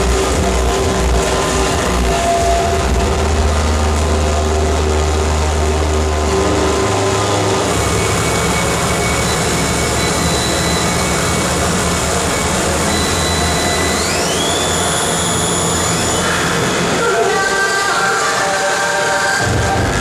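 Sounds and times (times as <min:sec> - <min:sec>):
roar of dense noise: 0:00.0 - 0:17.1
low drone: 0:00.0 - 0:20.0.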